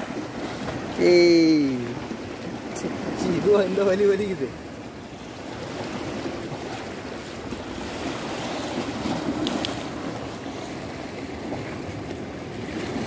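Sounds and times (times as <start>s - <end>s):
waves washing against rocks: 0.0s - 13.0s.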